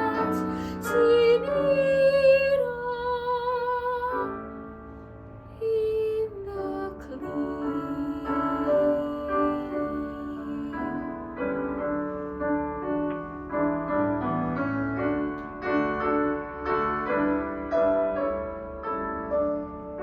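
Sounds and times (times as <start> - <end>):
solo piano: 0.0 - 20.0.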